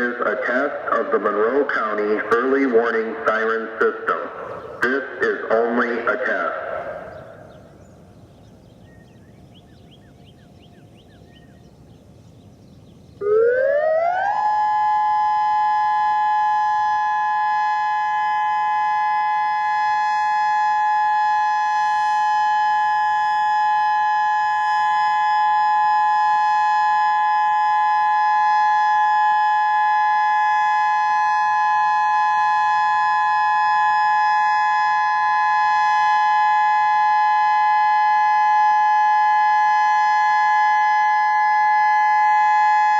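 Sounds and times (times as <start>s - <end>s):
outdoor warning siren: 0.0s - 42.9s.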